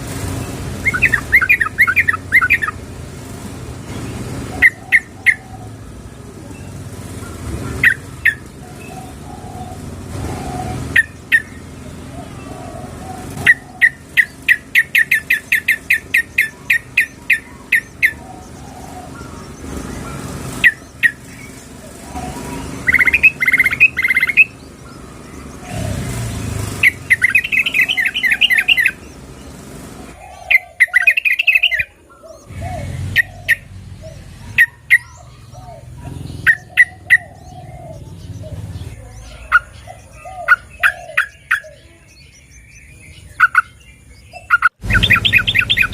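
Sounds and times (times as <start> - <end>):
bird chirping high and sharp: 0.0 - 5.8, 6.6 - 11.8, 12.4 - 45.9
quieter lower bird chirps: 0.0 - 5.9, 10.7 - 45.9.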